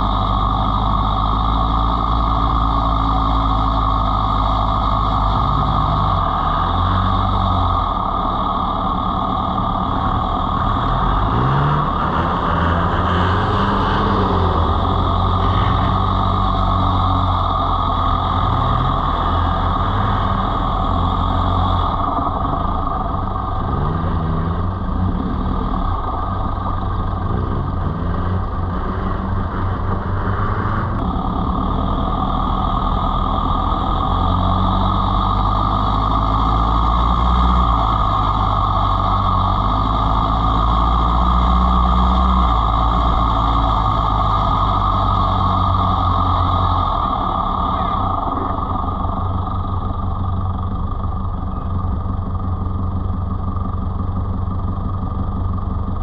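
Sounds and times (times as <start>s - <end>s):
off-road vehicle engine running: 0.0s - 56.0s
road and tyre noise: 0.0s - 56.0s.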